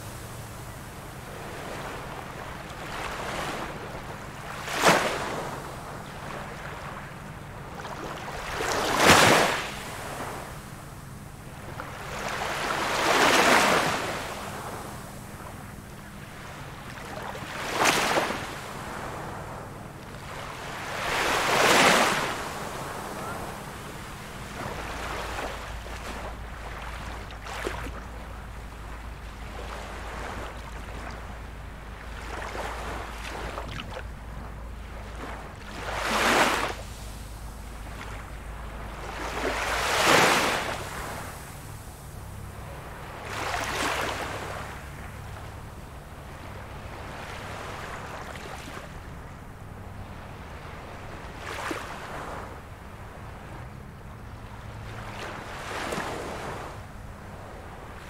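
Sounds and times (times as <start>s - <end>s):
small waves breaking on a beach: 0.0s - 58.0s.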